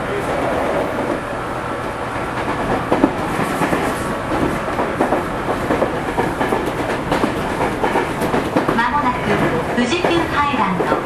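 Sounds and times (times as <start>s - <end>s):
train wheels rumbling on rail: 0.0s - 11.0s
wheels clacking over rail joints: 1.9s - 11.0s.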